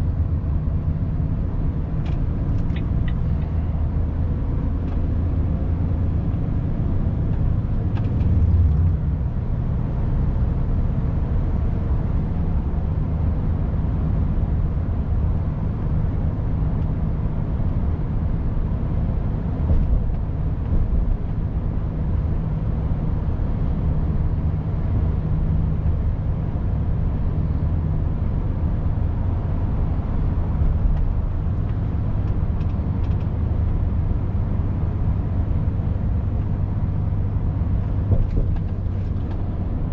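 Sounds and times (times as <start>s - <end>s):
diesel truck engine cruising: 0.0s - 39.9s
road noise: 0.0s - 39.9s.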